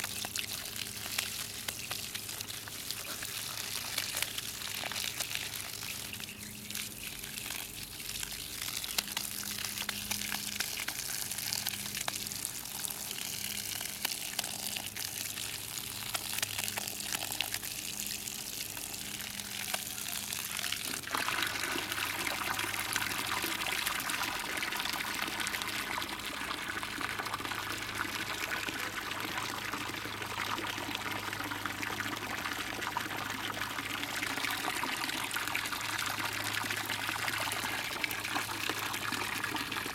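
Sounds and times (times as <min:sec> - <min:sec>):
water pouring from hose: 0:00.0 - 0:39.9.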